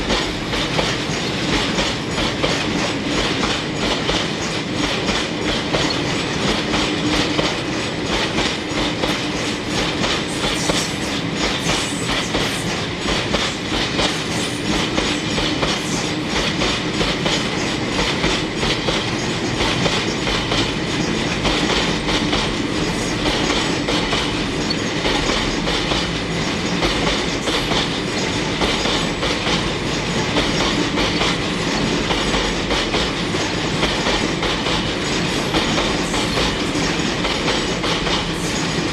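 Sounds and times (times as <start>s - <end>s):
train running on track: 0.0s - 38.9s.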